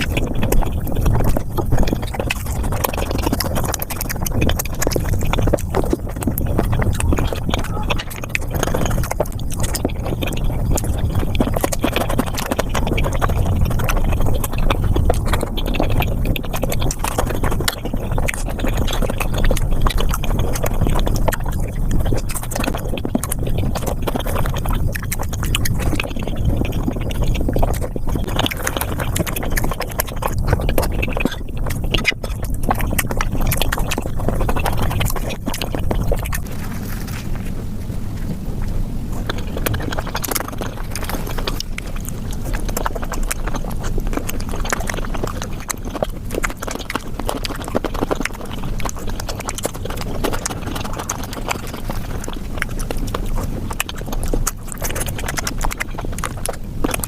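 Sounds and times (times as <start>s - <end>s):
fast chewing and mouth clicks: 0.0s - 57.0s.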